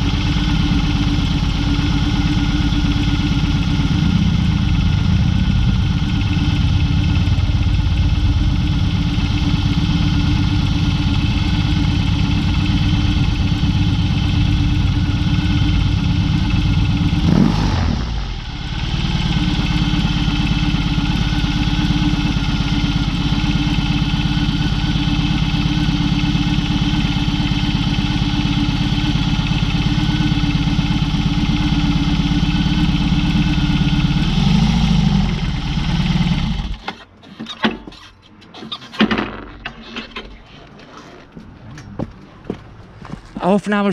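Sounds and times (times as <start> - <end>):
motorcycle engine running: 0.0 - 36.8.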